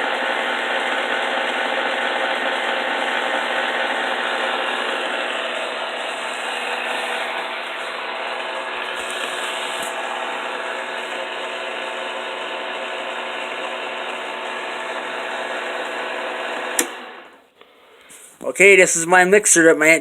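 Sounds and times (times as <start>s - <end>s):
kitchen mixer motor whirring: 0.0s - 17.4s.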